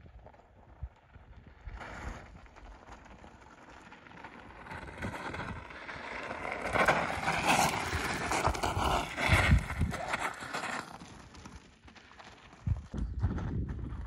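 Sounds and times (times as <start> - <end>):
bike tyres crunching on gravel: 0.1 - 14.0.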